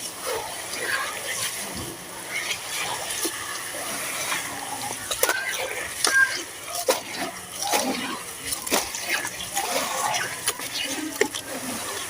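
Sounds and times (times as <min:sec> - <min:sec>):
splashes in water: 0:01.3 - 0:12.0.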